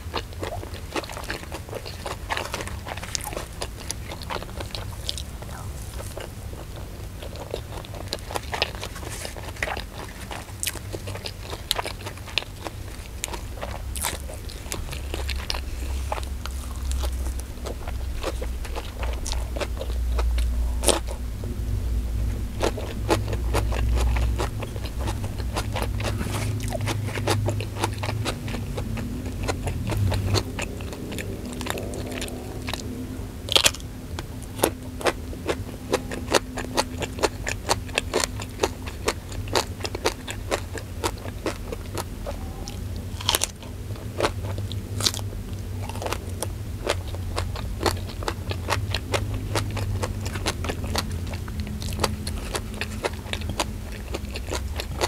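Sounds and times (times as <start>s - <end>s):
chewing and crunching: 0.0s - 21.3s, 22.2s - 55.0s
low rumble: 0.0s - 55.0s.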